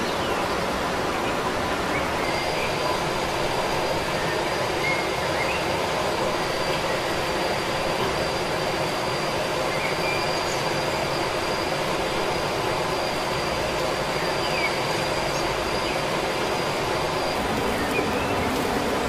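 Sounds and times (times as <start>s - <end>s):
steady rushing outdoor noise: 0.0s - 19.0s
thin high whine: 0.0s - 19.0s.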